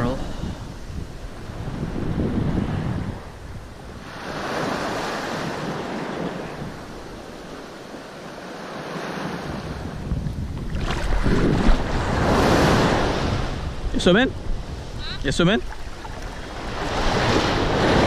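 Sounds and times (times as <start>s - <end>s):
wind gusting on microphone: 0.0s - 8.2s, 9.0s - 18.0s
small waves in shallow surf: 0.0s - 18.0s.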